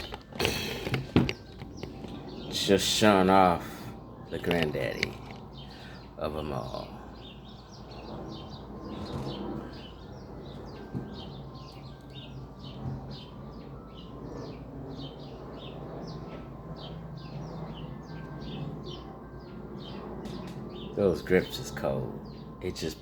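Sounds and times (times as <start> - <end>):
birds chirping: 0.0 - 23.0
low steady hum: 0.0 - 23.0.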